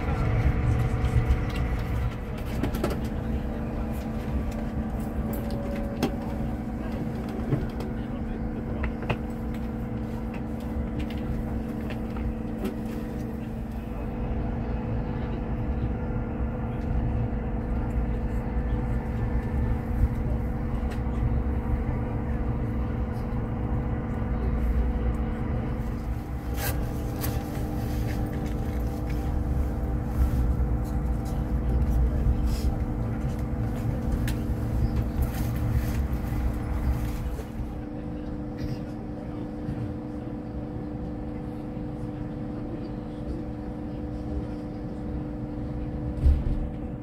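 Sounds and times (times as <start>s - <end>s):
train running rumble: 0.0s - 47.0s.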